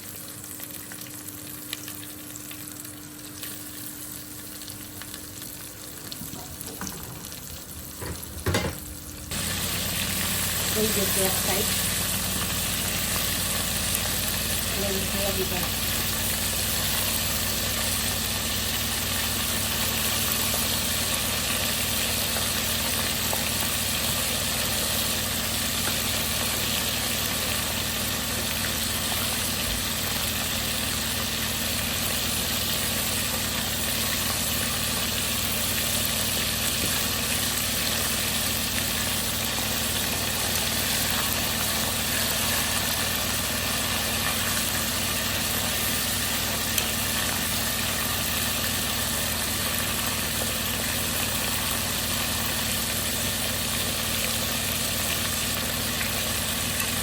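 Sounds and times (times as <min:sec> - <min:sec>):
chicken frying in hot oil: 0:00.0 - 0:57.0.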